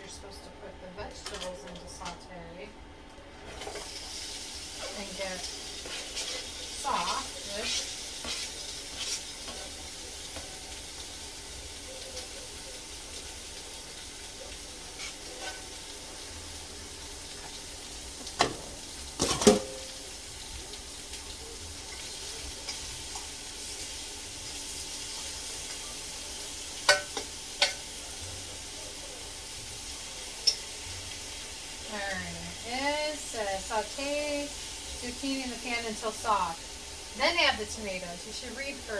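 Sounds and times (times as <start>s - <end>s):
zucchini sizzling in frying pan: 3.5s - 38.9s.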